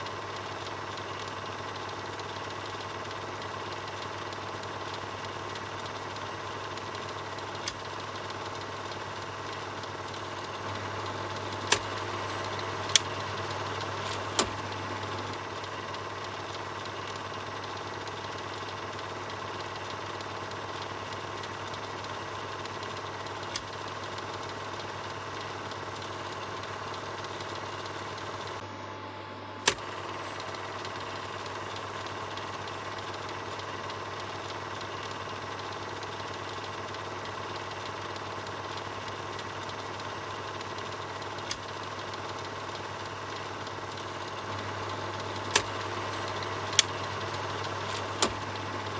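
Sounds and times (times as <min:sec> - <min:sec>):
film projector whirring: 0:00.0 - 0:48.9
sharp clicks: 0:03.4 - 0:28.6, 0:29.6 - 0:48.9.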